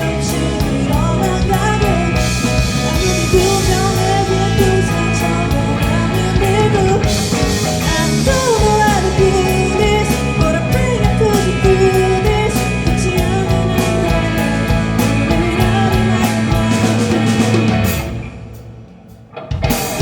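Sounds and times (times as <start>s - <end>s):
bending guitar lead line: 0.0s - 20.0s
live rock band playing: 0.0s - 20.0s.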